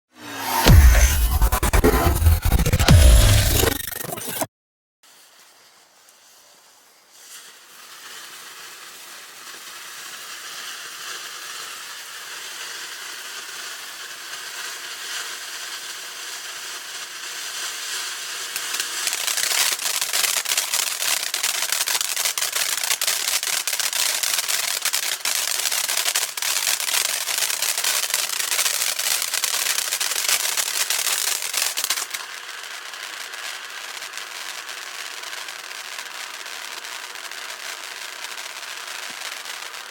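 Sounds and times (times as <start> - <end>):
firework crackling: 0.3 - 4.4, 5.0 - 39.9.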